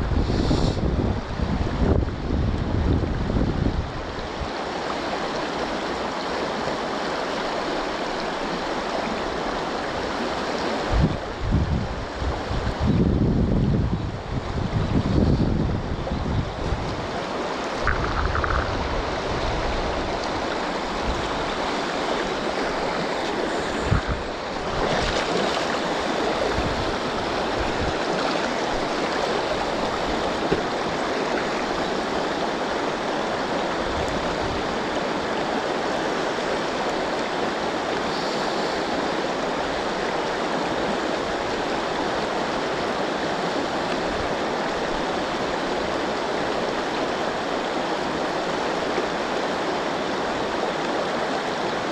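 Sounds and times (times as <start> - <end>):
river rapid flowing: 0.0 - 13.0, 13.9 - 51.9.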